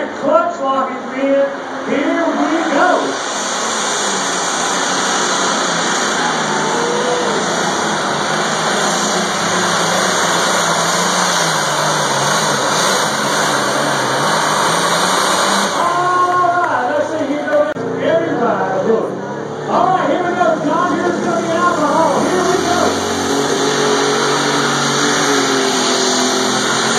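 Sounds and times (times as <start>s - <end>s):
pulling vehicle engine at full power: 0.0s - 26.9s.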